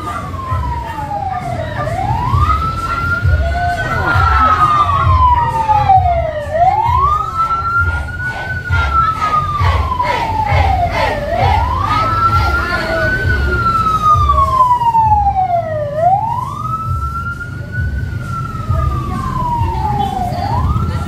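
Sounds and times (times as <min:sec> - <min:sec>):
low beat: 0:00.0 - 0:21.0
siren wailing: 0:00.0 - 0:21.0.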